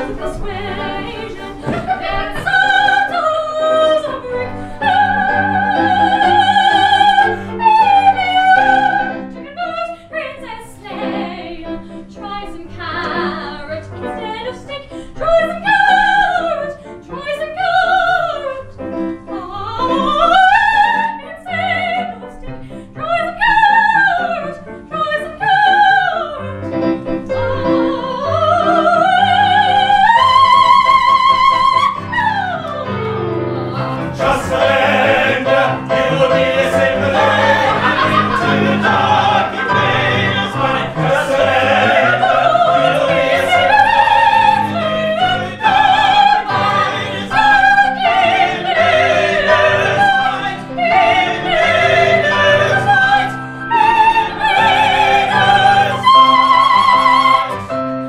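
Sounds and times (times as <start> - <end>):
operatic soprano singing: 0.0 - 57.7.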